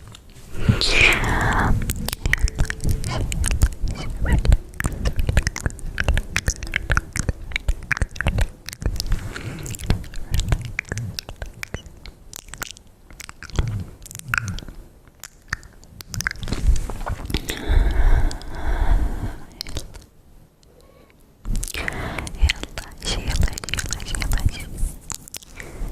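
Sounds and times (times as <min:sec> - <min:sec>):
wet mouth clicks and smacks: 0:01.1 - 0:18.6, 0:19.5 - 0:20.1, 0:21.5 - 0:25.7.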